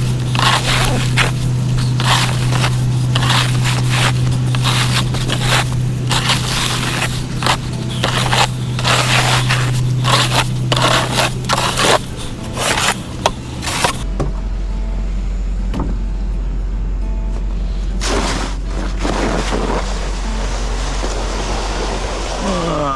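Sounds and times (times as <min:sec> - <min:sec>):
snow scraping off pavement: 0:00.0 - 0:14.0, 0:18.0 - 0:22.8
engine hum: 0:00.0 - 0:22.9.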